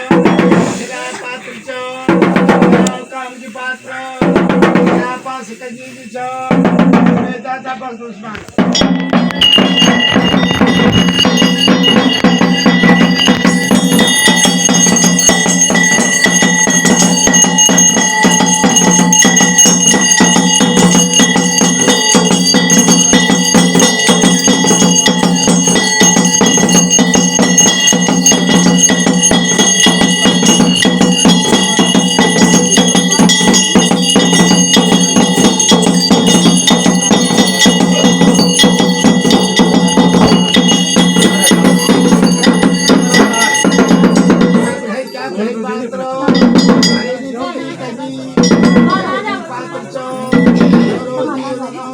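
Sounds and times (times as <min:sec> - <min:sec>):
bells ringing rapidly: 0:00.0 - 0:01.2, 0:02.1 - 0:05.4, 0:08.4 - 0:51.9.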